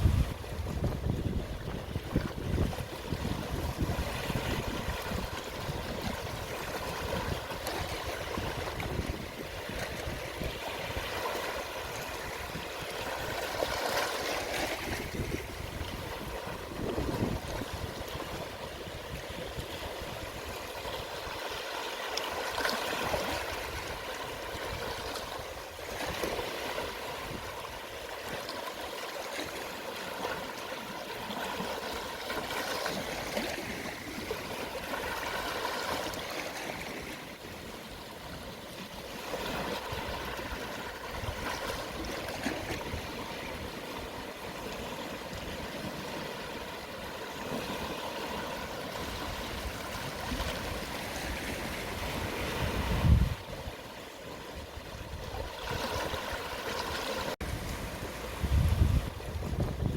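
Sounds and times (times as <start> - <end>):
gentle sea waves washing ashore: 0.0 - 59.9.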